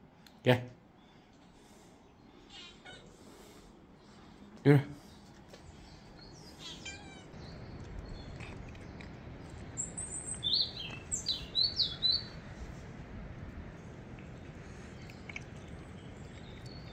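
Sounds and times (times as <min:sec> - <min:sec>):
outdoor background noise: 0:00.0 - 0:16.9
small birds chirping: 0:00.3 - 0:12.8, 0:13.7 - 0:16.9.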